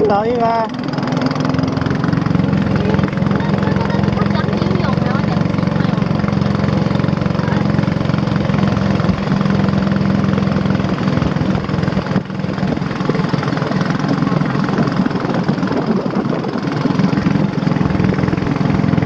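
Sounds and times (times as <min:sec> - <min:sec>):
motorboat engine running: 0:00.0 - 0:19.0
water rushing along hull: 0:00.0 - 0:19.0
wind: 0:00.0 - 0:19.0.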